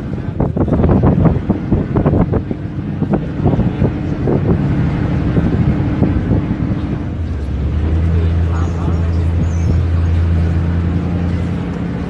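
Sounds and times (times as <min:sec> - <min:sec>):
vehicle engine running: 0:00.0 - 0:12.0
wind buffeting microphone: 0:00.0 - 0:12.0.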